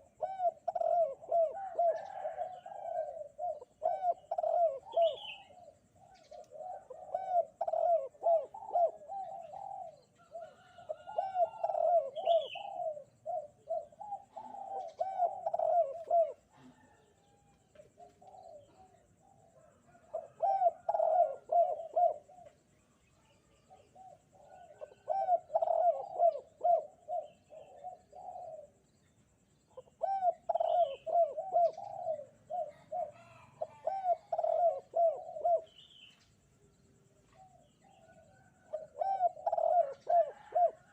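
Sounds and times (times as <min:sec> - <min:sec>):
dove cooing: 0:00.0 - 0:29.0, 0:29.7 - 0:40.9
small birds chirping faintly: 0:00.0 - 0:40.9.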